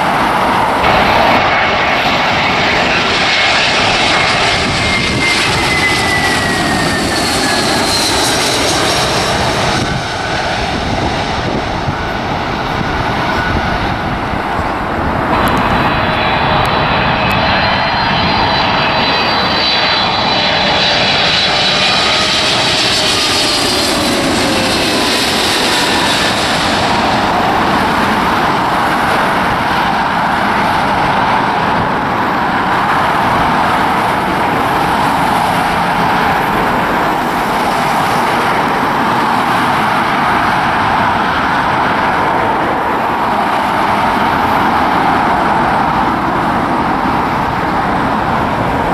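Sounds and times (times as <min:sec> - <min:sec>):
jet airliners passing overhead: 0:00.0 - 0:48.9.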